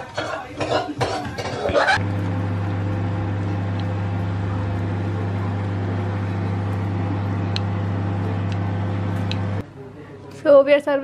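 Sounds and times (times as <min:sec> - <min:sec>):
low machine hum: 0:00.6 - 0:10.2.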